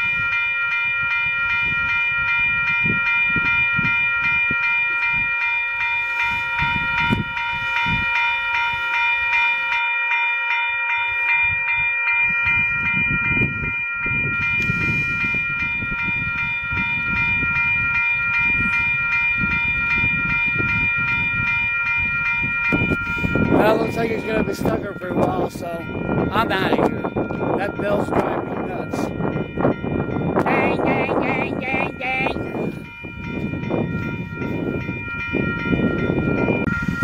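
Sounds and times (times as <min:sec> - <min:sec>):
wind rumble on microphone: 0:00.0 - 0:09.4, 0:11.0 - 0:37.0
railroad crossing bell ringing: 0:00.0 - 0:37.0.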